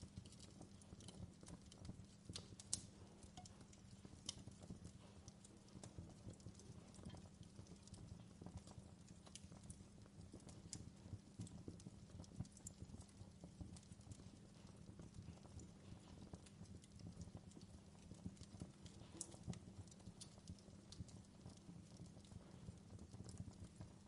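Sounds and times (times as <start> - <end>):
fireplace crackling: 0.0 - 24.0.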